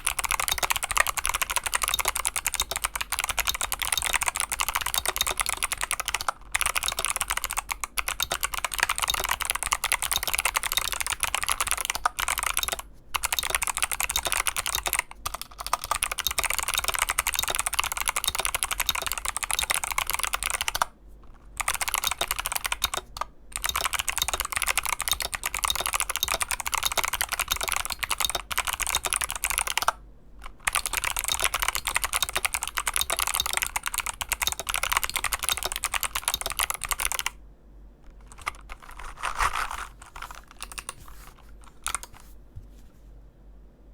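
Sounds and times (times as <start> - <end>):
clicky mechanical keyboard typing: 0.0 - 37.4, 38.1 - 42.3.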